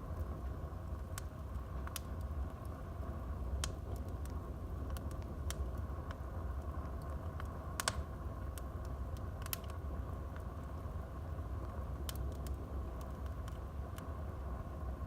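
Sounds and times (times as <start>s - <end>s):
burning logs crackling and popping: 0.0s - 15.0s
fire flames rumbling and hissing: 0.0s - 15.0s.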